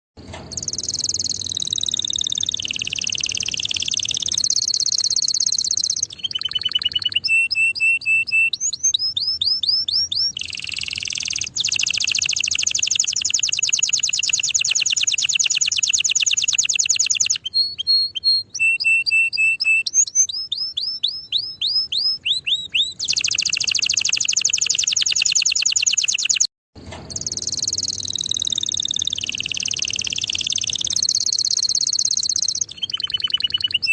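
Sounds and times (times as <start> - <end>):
canary singing trills: 0.5 - 26.5, 27.1 - 33.9.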